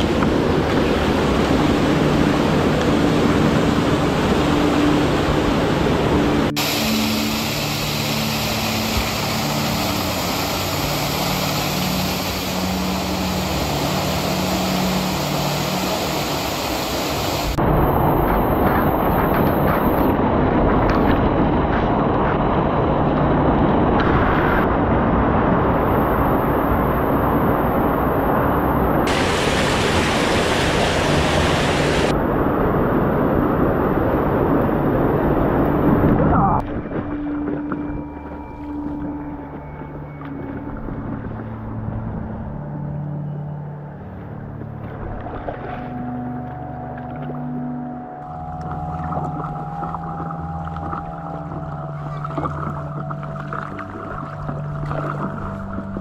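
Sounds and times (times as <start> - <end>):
stream rushing over rocks: 0.0 - 24.6, 25.4 - 38.7, 45.0 - 56.0.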